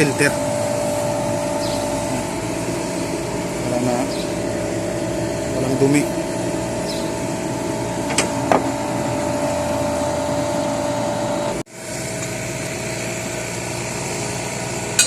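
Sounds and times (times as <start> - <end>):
refrigeration machinery humming: 0.0 - 15.0.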